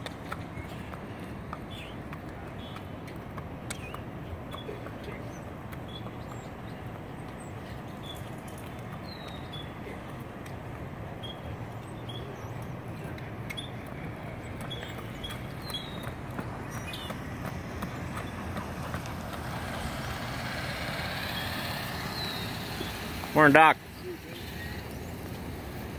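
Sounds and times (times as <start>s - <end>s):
horse hooves trotting on asphalt: 0.0s - 25.9s
small birds chirping: 0.2s - 25.9s.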